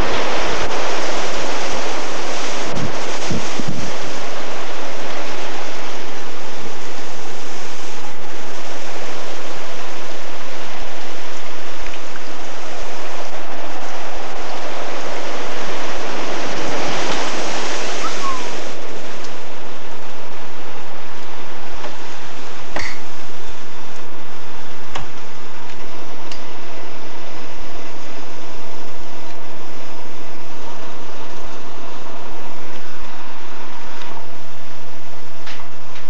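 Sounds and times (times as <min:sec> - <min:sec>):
wind rushing: 0:00.0 - 0:35.0
floodwater rushing: 0:00.0 - 0:35.4
wind buffeting microphone: 0:00.0 - 0:36.0.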